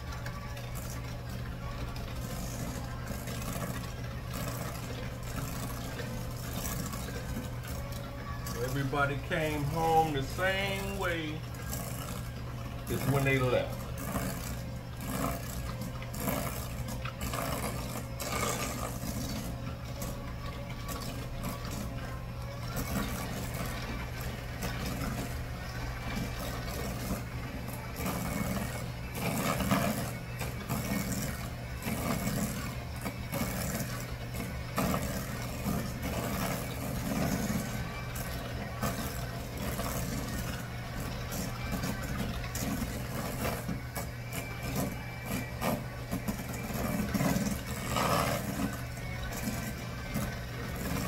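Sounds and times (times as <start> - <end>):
beaters scraping a metal bowl: 0.0 - 22.0, 22.7 - 51.0
electric hand mixer running: 0.0 - 51.0.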